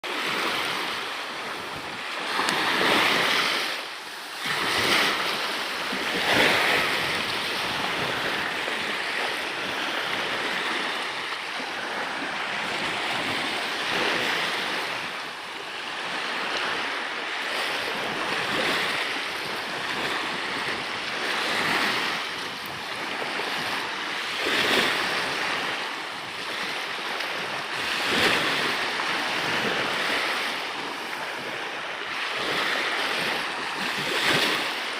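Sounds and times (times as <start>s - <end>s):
water rushing and splashing: 0.0s - 34.9s
wind: 0.0s - 34.9s.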